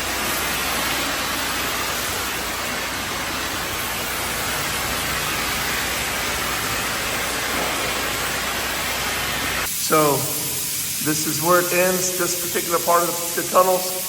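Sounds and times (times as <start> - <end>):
loud rushing hiss: 0.0 - 14.0.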